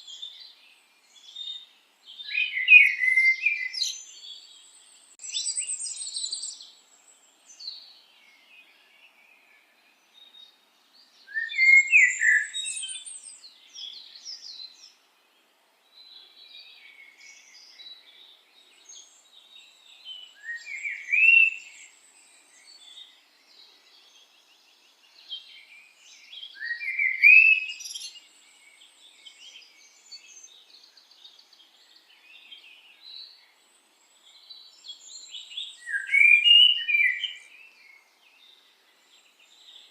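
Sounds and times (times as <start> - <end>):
birds chirping and singing: 0.0 - 15.0, 16.0 - 39.9.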